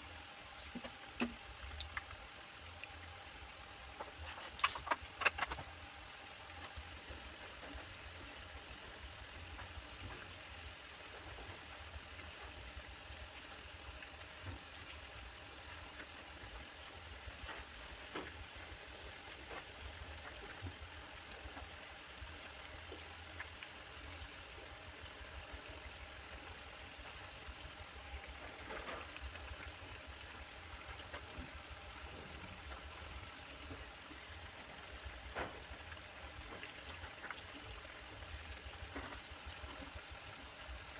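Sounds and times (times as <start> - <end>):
fritters deep-frying in oil: 0.0 - 40.9.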